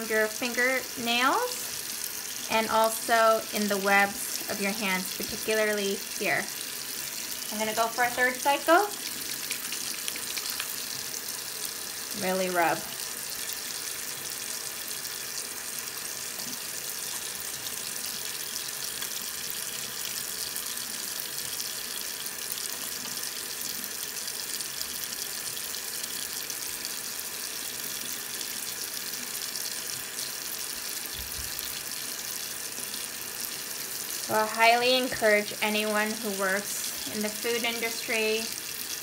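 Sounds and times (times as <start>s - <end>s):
tap water running into sink: 0.0s - 39.0s.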